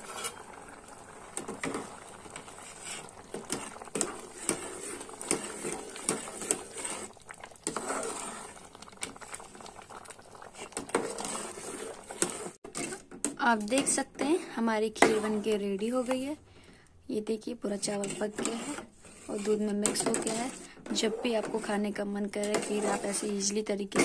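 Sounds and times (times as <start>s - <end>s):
ladle scraping and knocking pot: 0.0s - 9.6s, 10.4s - 14.1s, 17.7s - 24.0s
thick pudding bubbling in pot: 0.0s - 13.0s, 17.7s - 24.0s.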